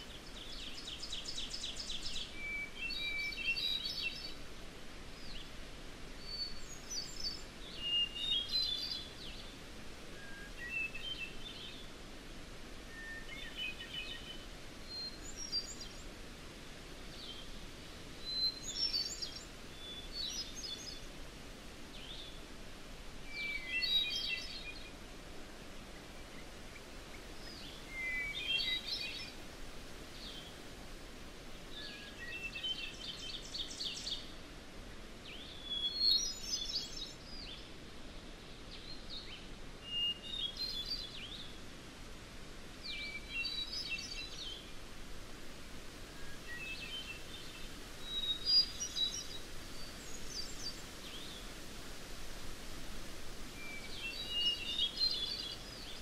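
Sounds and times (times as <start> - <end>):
faint outdoor hiss: 0.0 - 56.0
songbird singing: 0.0 - 56.0.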